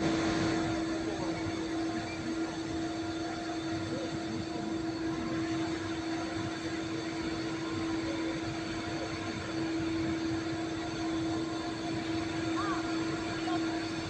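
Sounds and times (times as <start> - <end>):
steady mechanical drone: 0.0 - 14.0.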